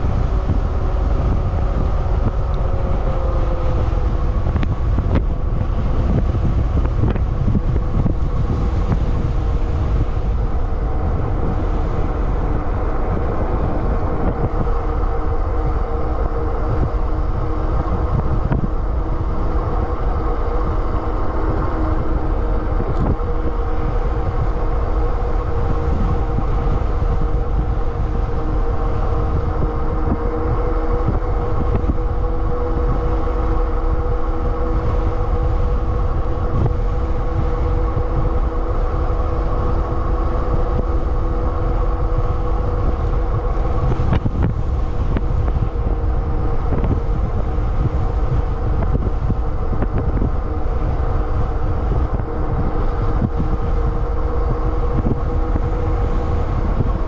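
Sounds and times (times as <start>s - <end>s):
electric motor hum: 0.0s - 57.0s
wind rumble on microphone: 0.0s - 57.0s.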